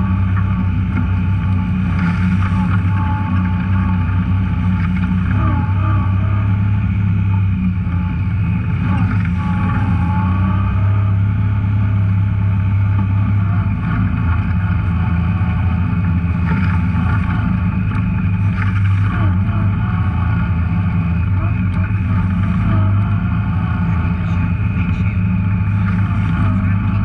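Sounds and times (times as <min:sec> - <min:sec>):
off-road vehicle engine droning: 0:00.0 - 0:27.0.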